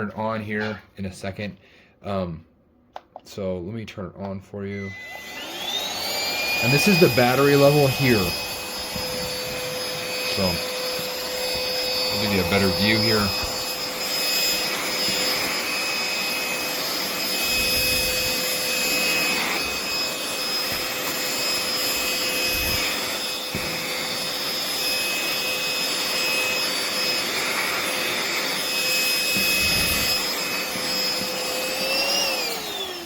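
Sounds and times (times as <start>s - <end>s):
handheld vacuum cleaner running: 4.7s - 33.0s.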